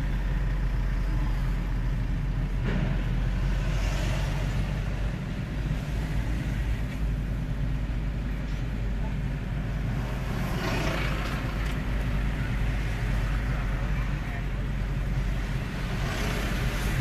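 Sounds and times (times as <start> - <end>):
car engine and tyres rumbling: 0.0 - 17.0
passing traffic: 0.0 - 17.0.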